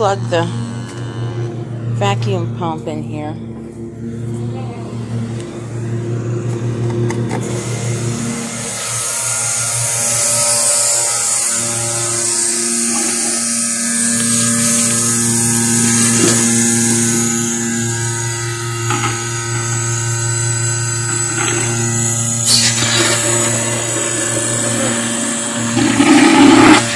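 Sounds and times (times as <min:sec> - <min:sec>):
vacuum pump humming: 0:00.0 - 0:26.9.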